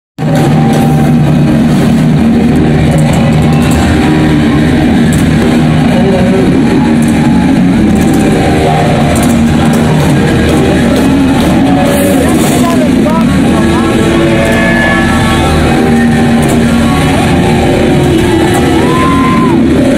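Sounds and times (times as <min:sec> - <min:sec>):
electric guitar: 0:00.2 - 0:19.9.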